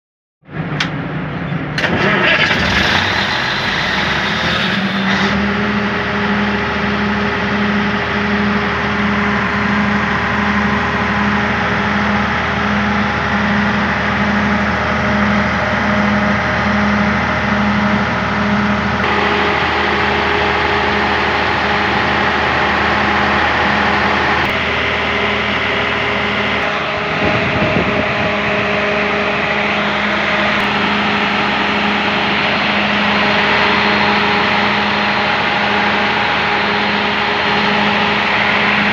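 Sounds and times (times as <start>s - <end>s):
diesel engine running: 0.5s - 38.9s.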